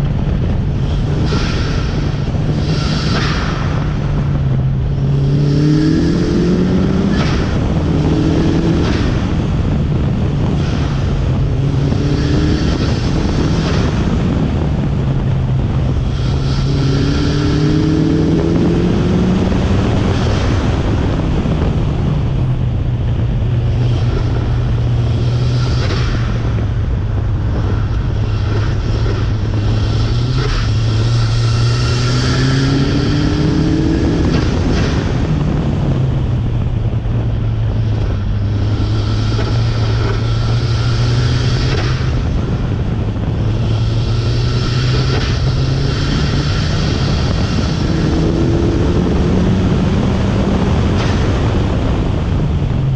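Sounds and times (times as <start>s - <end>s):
car engine at full throttle: 0.0s - 52.9s
wind and road rush: 0.0s - 52.9s.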